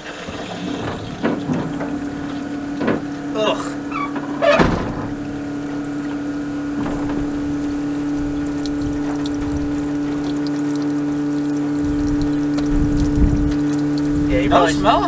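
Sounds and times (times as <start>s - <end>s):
electric fuel pump humming: 0.0s - 15.0s
fuel running out of line: 0.0s - 15.0s.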